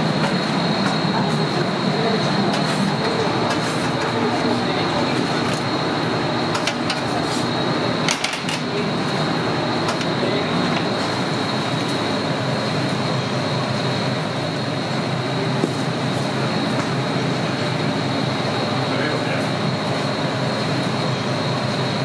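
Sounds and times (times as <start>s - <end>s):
constant rush with high whine: 0.0s - 22.0s.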